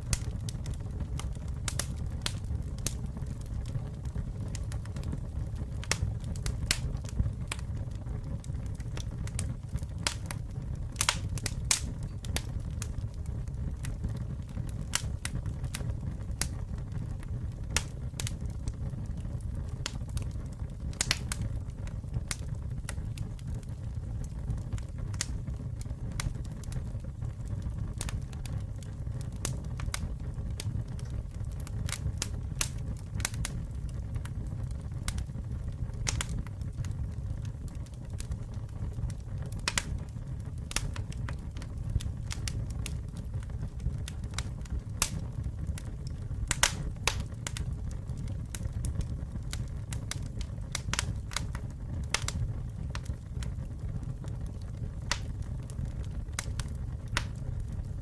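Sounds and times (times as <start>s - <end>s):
campfire rumble: 0.0s - 58.0s
wood crackling and popping: 0.0s - 58.0s.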